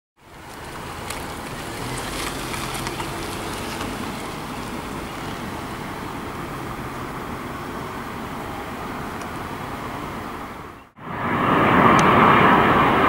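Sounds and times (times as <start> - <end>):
distant jet engine rumble: 0.2 - 13.0
wind buffeting microphone: 0.4 - 13.0.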